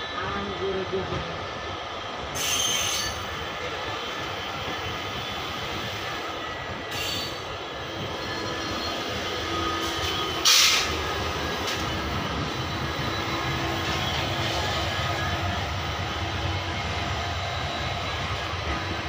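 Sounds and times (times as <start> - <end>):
train coach rolling on track: 0.0 - 19.0.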